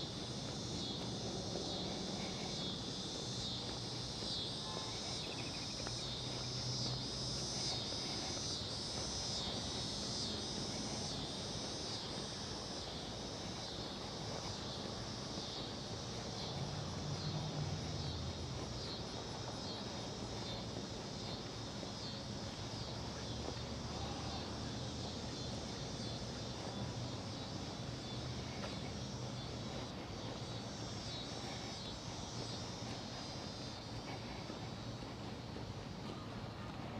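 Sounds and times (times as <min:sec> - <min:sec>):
insects buzzing shrilly: 0:00.0 - 0:36.6.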